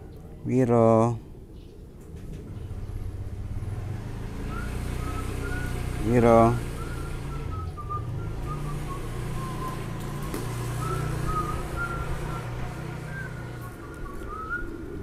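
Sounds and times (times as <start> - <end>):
low engine-like hum: 1.2 - 15.0.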